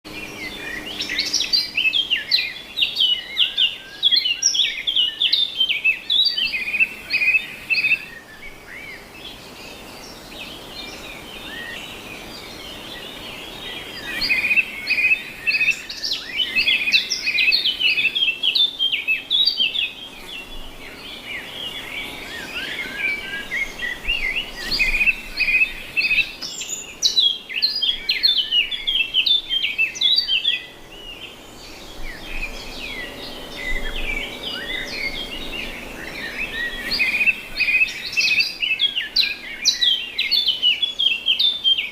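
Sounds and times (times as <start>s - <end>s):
songbirds chirping and twittering: 0.0s - 41.9s.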